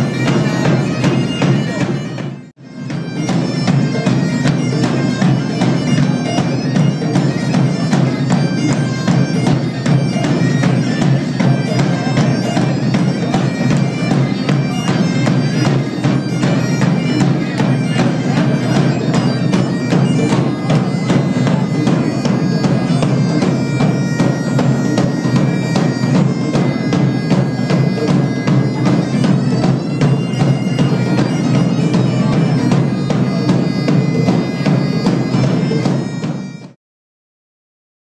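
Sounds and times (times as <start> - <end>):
bagpipes playing: 0.0 - 36.8
hand drum: 0.0 - 36.8.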